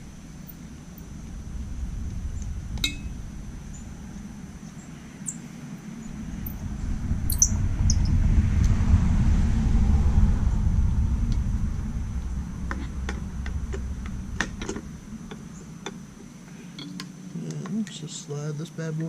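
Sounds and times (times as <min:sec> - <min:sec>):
low rumble: 0:00.0 - 0:16.7.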